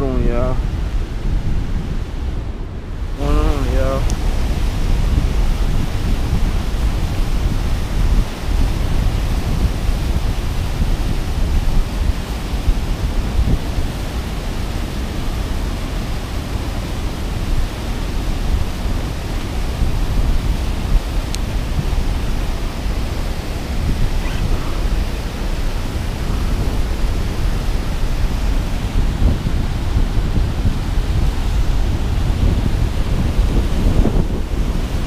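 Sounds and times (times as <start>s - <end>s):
churning white water rushing: 0.0s - 35.0s
wind rumbling on microphone: 0.0s - 35.0s.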